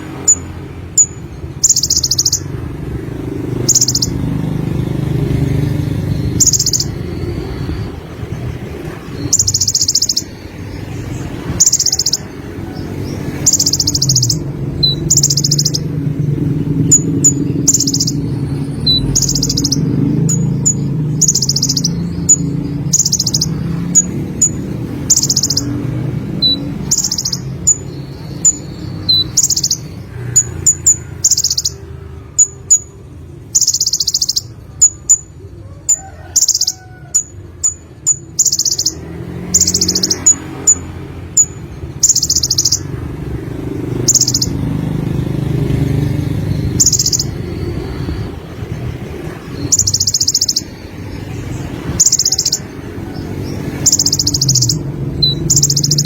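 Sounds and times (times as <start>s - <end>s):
bird buzzing trill song: 0.0s - 35.3s, 36.4s - 56.0s.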